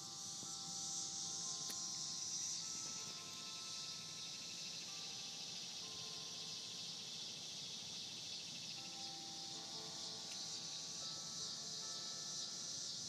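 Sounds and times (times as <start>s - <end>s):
distant church bells chiming: 0.0s - 13.0s
insects buzzing: 0.0s - 13.0s.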